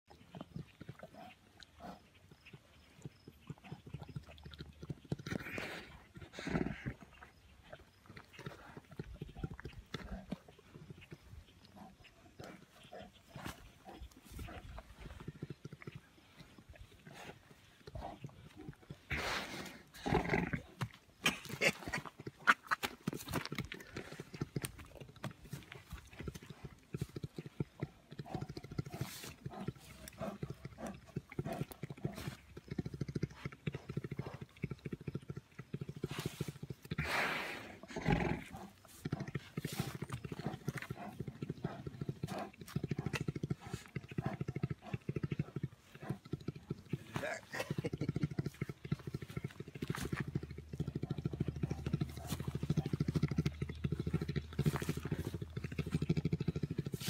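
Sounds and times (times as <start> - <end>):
bear purring: 3.2 - 20.9, 23.4 - 57.0.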